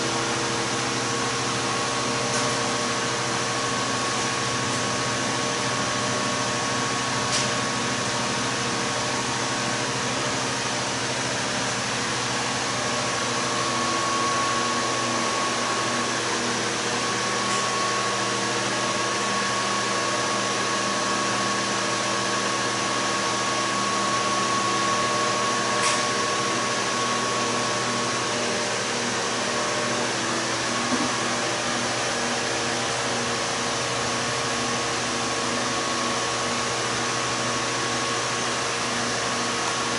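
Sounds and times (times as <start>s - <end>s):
machine hum and hiss: 0.0s - 39.9s.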